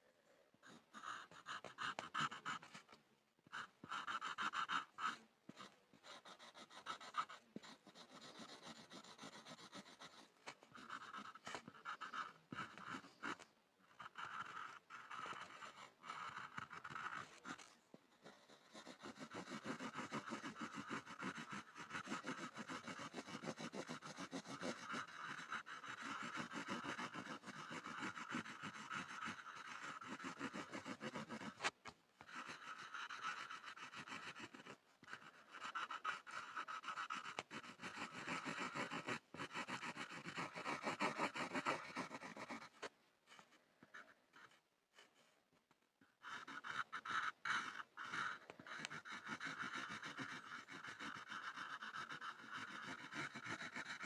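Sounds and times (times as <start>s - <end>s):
pencil scribbling on a board: 0.7s - 54.0s.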